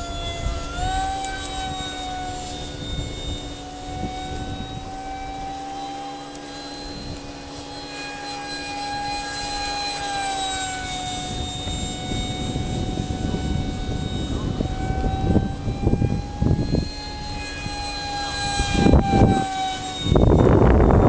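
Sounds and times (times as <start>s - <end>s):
electric ducted fan whining: 0.0s - 21.0s.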